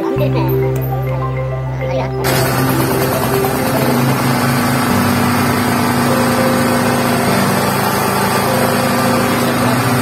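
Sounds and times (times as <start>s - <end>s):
generator engine running: 0.7s - 10.0s.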